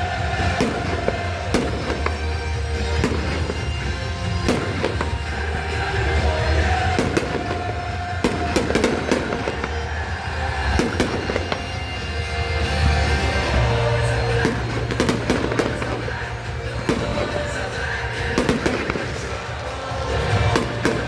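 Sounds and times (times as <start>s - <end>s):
fireworks exploding: 0.0s - 21.0s
music with heavy bass: 0.0s - 21.0s.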